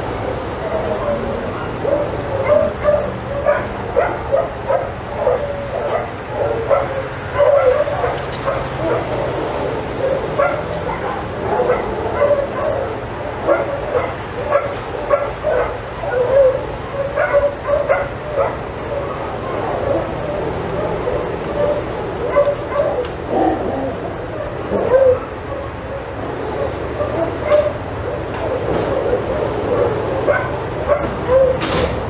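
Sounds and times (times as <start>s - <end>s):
dog barking and yipping: 0.4s - 32.0s
dog whining: 0.5s - 31.8s.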